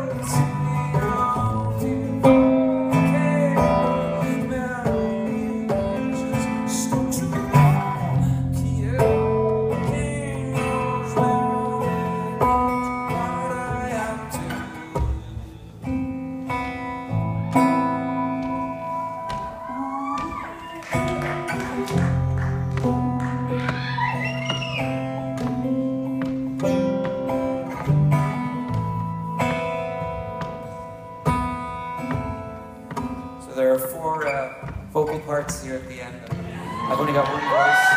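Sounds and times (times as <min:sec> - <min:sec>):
acoustic guitar strummed: 0:00.0 - 0:36.8.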